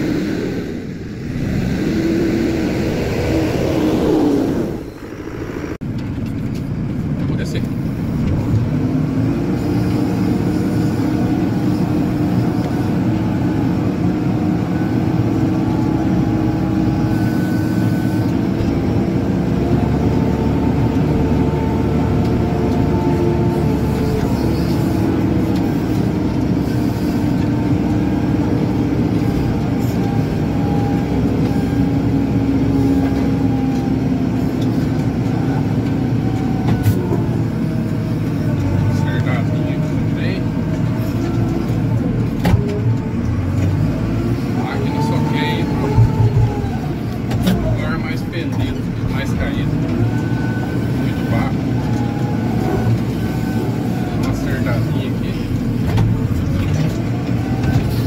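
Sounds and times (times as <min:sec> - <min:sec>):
diesel engine running: 0:00.0 - 0:58.0
machine whine: 0:00.0 - 0:58.0.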